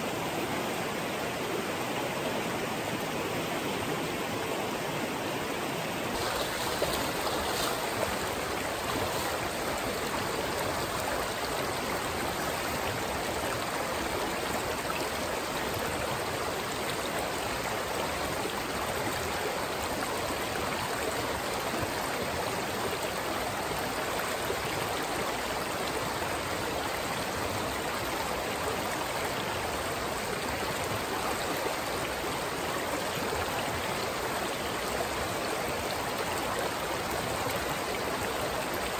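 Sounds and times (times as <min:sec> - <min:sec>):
creek rushing over stones: 0:00.0 - 0:38.9.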